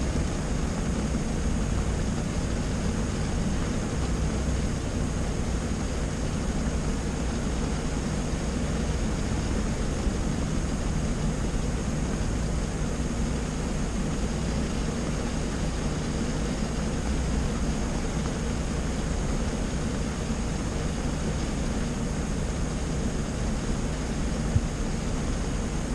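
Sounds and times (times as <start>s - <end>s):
low steady hum: 0.0s - 25.9s
rain on a car windshield: 0.0s - 25.9s.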